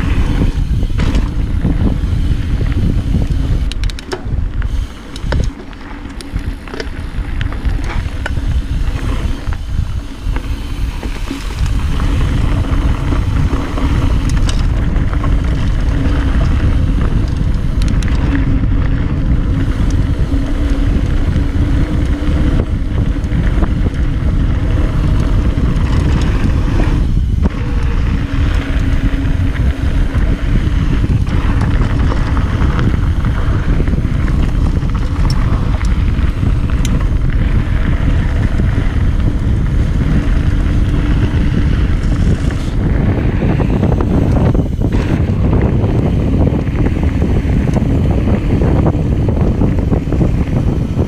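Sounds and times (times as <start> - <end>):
bike clicks and rattles: 0.0 - 51.0
tyre noise on dirt trail: 0.0 - 51.0
wind rushing over microphone: 0.0 - 51.0.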